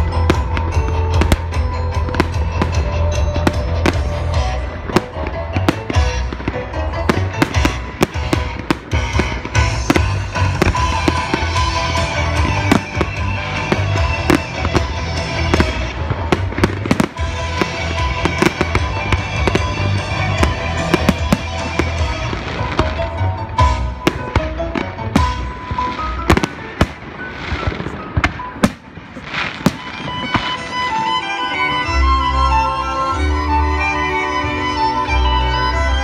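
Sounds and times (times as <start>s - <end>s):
fireworks bursting with crackling: 0.0s - 32.1s
music playing: 0.0s - 36.0s.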